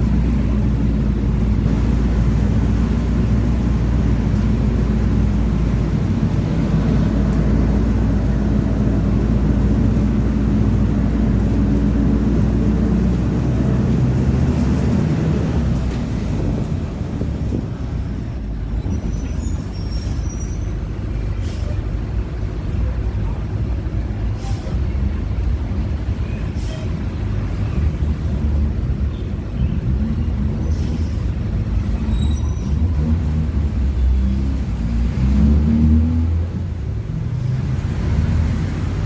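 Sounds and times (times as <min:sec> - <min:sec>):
bus engine and driveline: 0:00.0 - 0:39.0.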